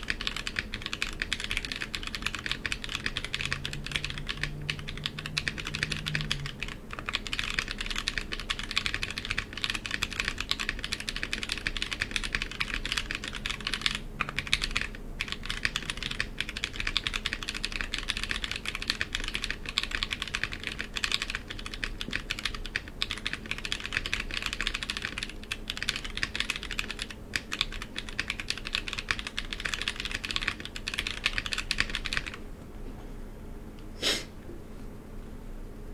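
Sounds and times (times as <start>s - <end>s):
fast mechanical keyboard typing: 0.0s - 32.4s.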